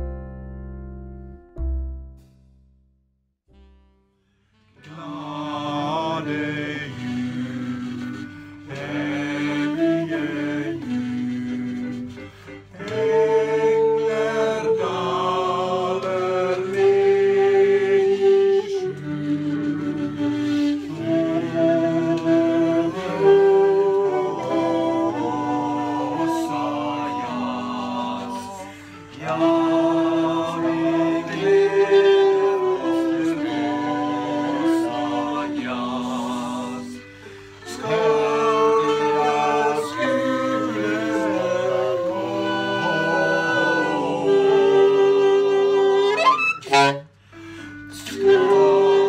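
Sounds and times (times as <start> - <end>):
saxophone: 3.5 - 49.0
group of voices singing: 4.8 - 47.0, 47.9 - 49.0.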